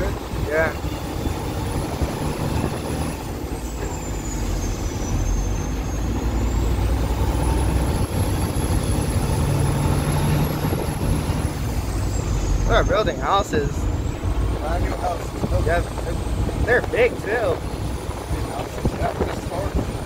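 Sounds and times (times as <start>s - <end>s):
road noise inside cab: 0.0s - 20.0s
truck engine drone: 0.0s - 20.0s.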